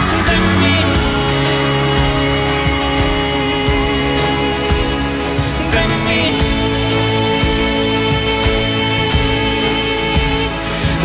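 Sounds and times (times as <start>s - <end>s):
drum beats: 0.0s - 11.0s
electric guitar: 0.0s - 11.0s
sustained chords: 0.0s - 11.0s.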